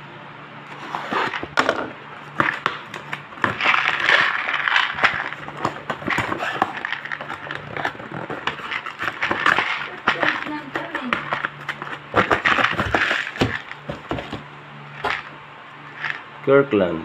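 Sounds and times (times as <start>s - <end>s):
cardboard box rustling and crackling: 0.7s - 14.4s, 15.0s - 15.4s.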